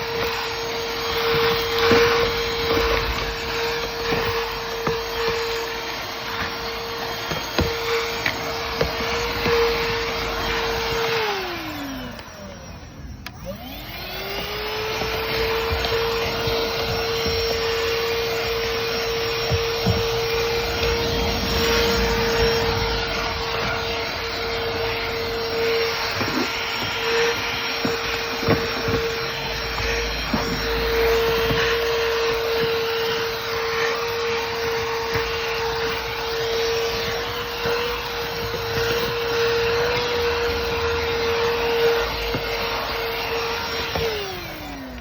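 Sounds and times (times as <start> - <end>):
handheld vacuum motor whine: 0.0 - 45.0.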